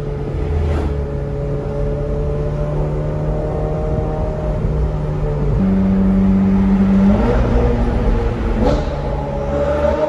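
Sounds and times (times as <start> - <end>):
car engine accelerating in cabin: 0.0 - 10.0.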